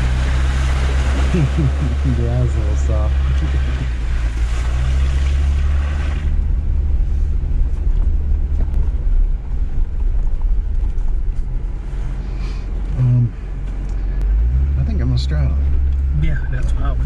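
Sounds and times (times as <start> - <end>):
vehicle engine rumbling off-road: 0.0 - 17.0.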